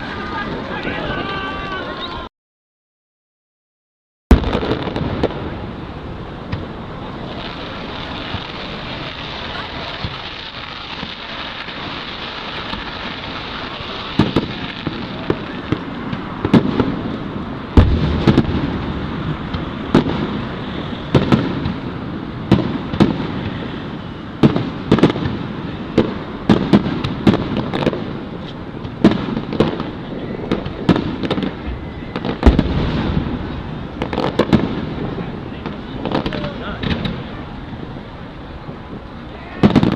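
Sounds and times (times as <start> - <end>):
fireworks bangs: 0.0 - 2.3, 4.3 - 39.9
murmur of crowd: 0.0 - 2.3, 4.7 - 39.9.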